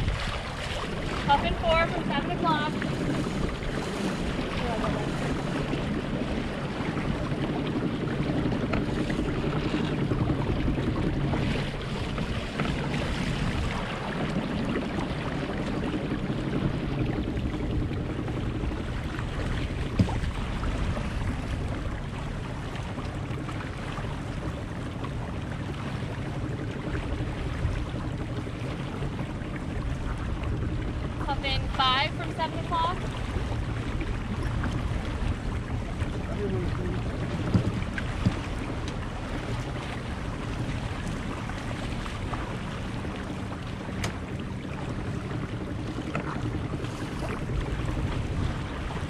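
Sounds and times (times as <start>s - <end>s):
wind and water rushing along hull: 0.0s - 49.0s.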